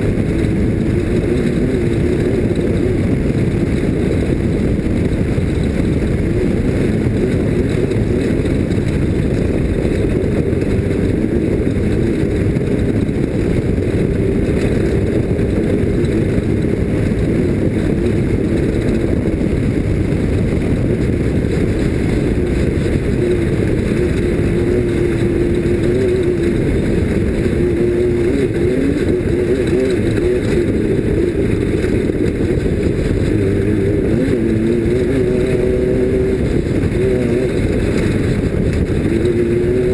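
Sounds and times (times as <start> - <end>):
race vehicle engine running hard: 0.0 - 39.9.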